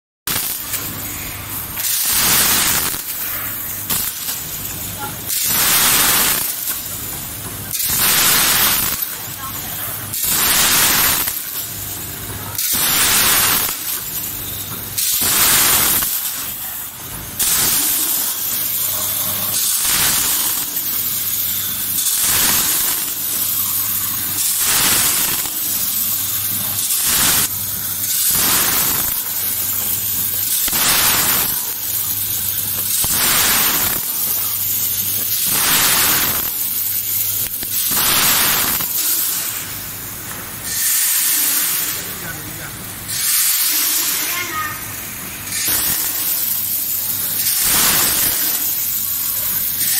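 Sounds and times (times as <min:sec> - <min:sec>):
packing machine rushing hiss: 0:00.3 - 0:49.9.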